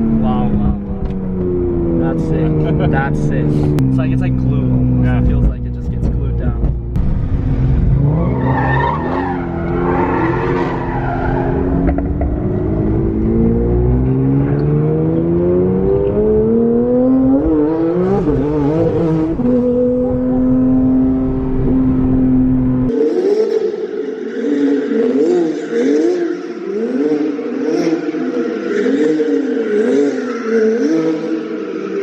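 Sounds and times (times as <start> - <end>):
car engine pulling hard: 0.0 - 32.0.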